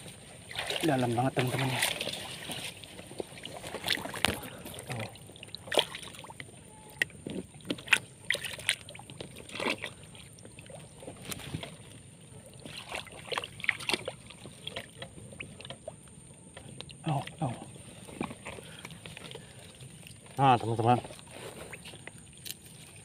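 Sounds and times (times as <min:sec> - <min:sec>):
swamp water splashing: 0:00.0 - 0:23.0.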